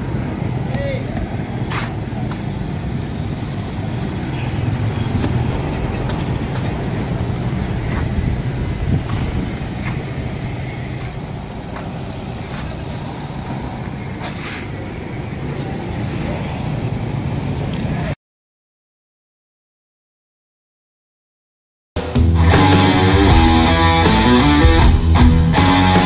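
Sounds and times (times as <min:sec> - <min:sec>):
road traffic: 0:00.0 - 0:18.2, 0:22.0 - 0:26.0.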